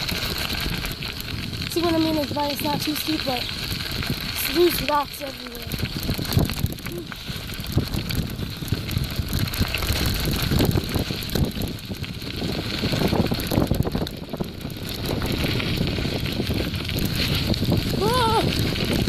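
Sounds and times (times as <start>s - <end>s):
bicycle tyres crunching over gravel: 0.0s - 19.0s
bike rattling over bumps: 0.0s - 19.0s.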